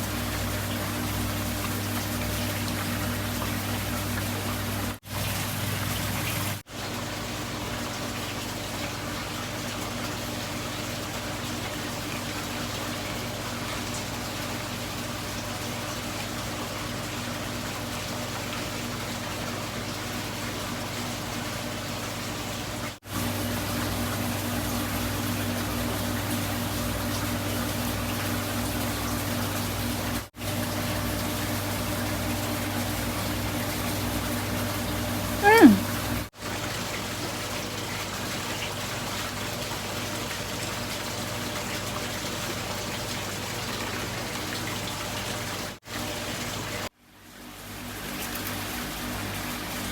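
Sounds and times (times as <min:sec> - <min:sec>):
water running: 0:00.0 - 0:49.9.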